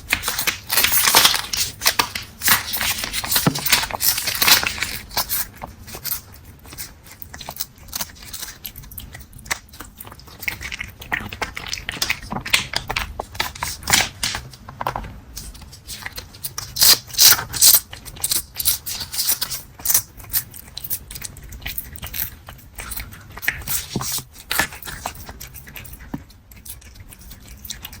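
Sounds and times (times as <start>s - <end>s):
cat mouth clicks and crunches: 0.0s - 14.8s, 15.4s - 28.0s.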